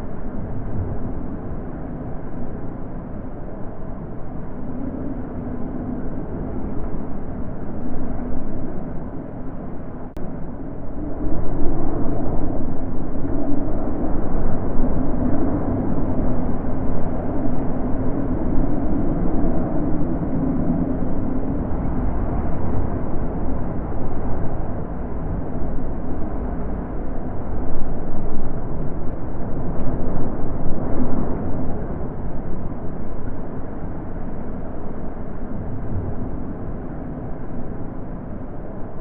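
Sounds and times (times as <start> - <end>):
wind blowing in gusts: 0.0 - 39.0.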